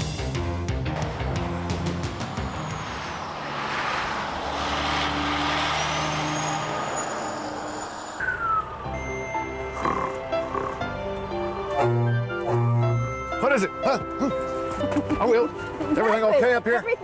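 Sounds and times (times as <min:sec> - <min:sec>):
truck passing by: 0:00.2 - 0:17.0.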